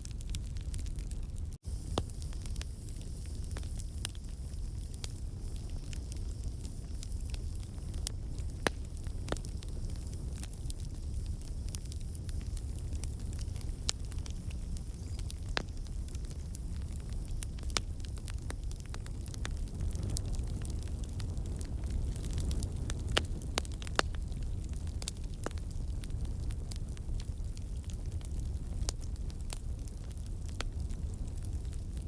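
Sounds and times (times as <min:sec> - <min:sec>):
logs crackling and popping: 0:00.0 - 0:32.0
low rumble of flames: 0:00.0 - 0:32.0.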